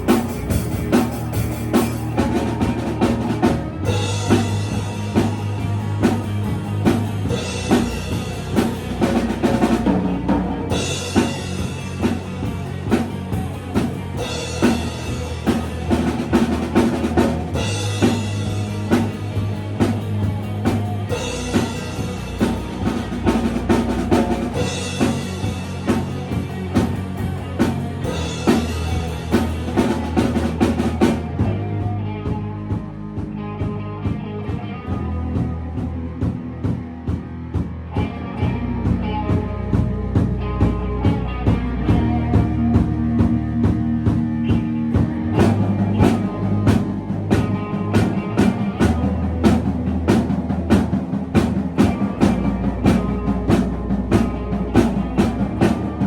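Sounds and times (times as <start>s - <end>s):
drum kit steady beat: 0.0s - 34.3s, 34.9s - 56.0s
live band playing: 0.0s - 56.0s.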